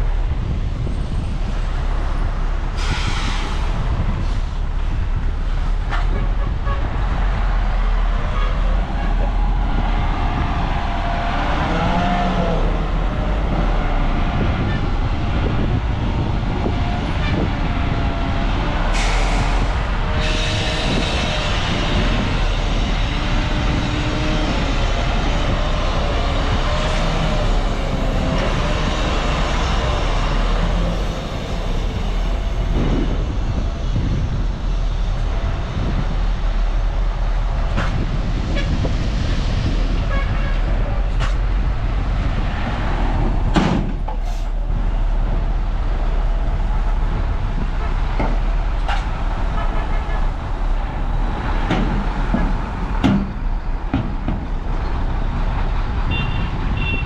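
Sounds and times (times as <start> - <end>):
bulldozer diesel engine rumbling: 0.0 - 57.0.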